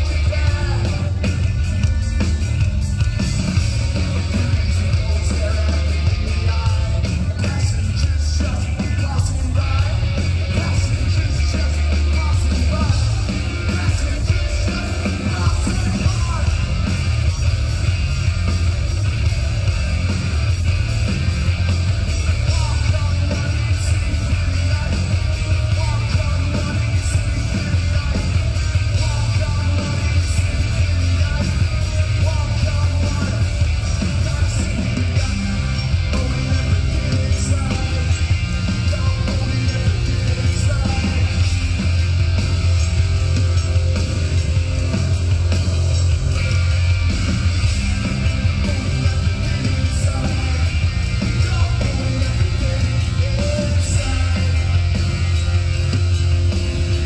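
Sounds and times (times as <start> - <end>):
bass guitar: 0.0 - 57.0
distorted electric guitars: 0.0 - 57.0
drums: 0.0 - 57.0.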